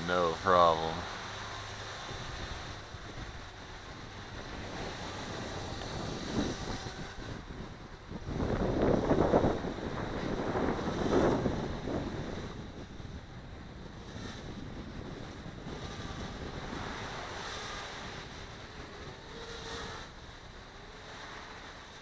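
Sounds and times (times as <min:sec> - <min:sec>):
faint drone motor whine: 0:00.0 - 0:22.0
wind blowing across microphone: 0:00.0 - 0:22.0.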